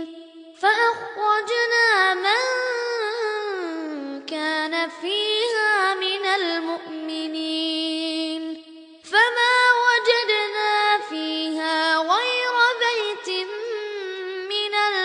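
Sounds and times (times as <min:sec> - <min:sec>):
boy reciting melodically: 0:00.0 - 0:15.0.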